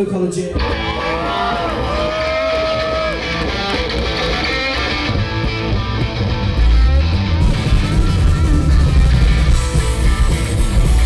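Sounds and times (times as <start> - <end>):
electric guitar: 0.5 - 11.0
live rock band: 0.5 - 11.0.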